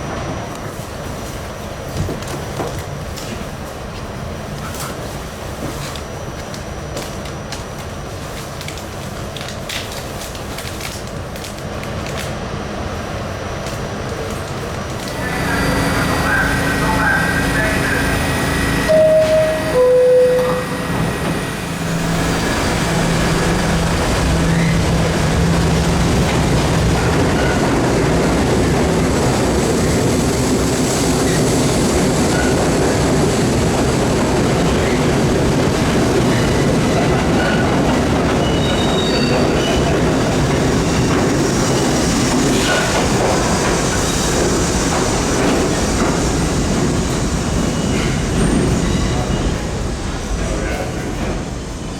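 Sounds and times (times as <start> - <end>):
subway train rumbling on track: 0.0 - 51.9.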